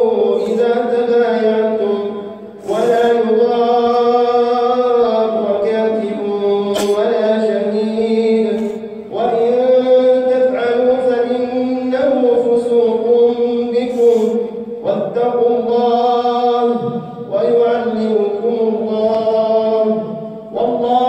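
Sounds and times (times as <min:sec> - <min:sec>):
man chanting recitation: 0:00.0 - 0:21.0.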